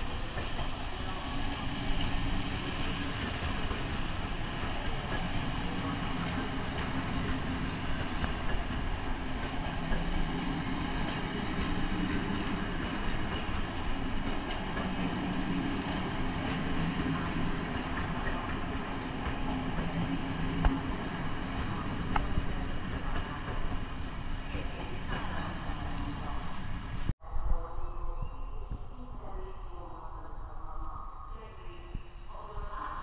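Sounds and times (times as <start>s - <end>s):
train running on rails: 0.0s - 27.1s.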